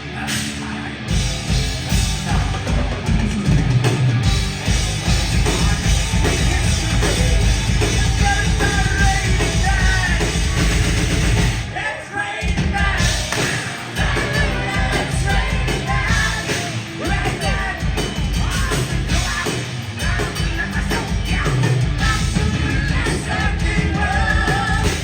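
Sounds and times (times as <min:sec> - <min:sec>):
heavy rock band playing: 0:00.0 - 0:25.0
pounding drum kit: 0:00.0 - 0:25.0.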